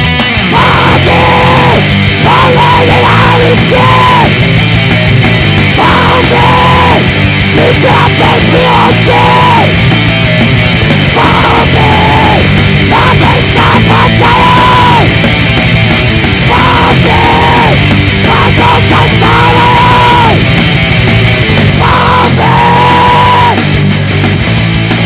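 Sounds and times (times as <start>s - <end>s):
heavy metal band playing: 0.0s - 25.0s.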